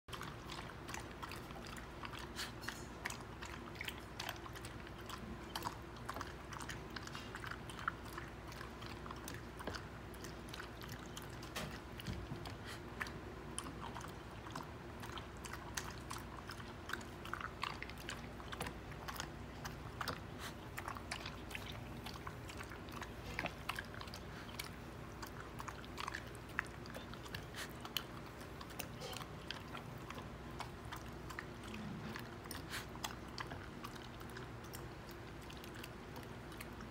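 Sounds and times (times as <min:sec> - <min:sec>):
dog chewing dry kibble: 0:00.1 - 0:36.9.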